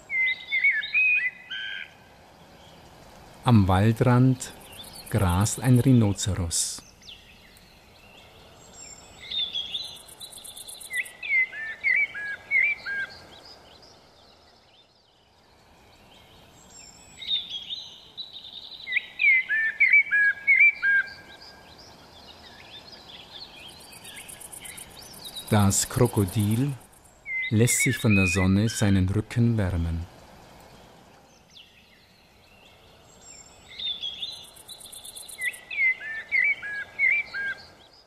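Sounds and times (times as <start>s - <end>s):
steady outdoor hiss: 0.0s - 38.0s.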